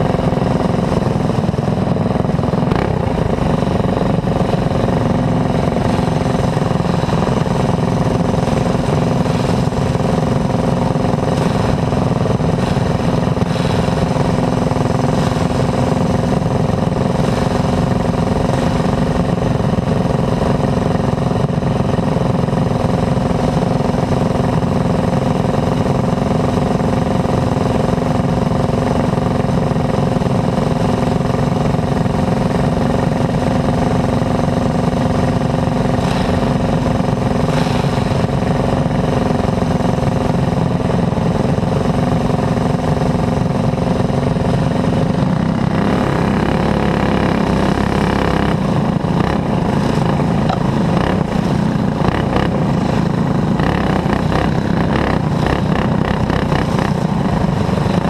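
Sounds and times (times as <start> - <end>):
kart engine running: 0.0 - 58.0
other kart engines: 0.0 - 58.0.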